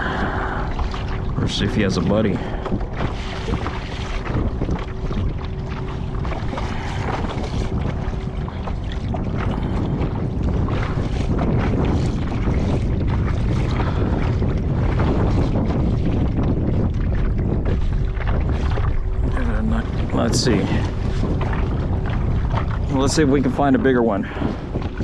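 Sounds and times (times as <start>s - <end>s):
water lapping against kayak hull: 0.0s - 25.0s
wind buffeting microphone: 0.0s - 25.0s.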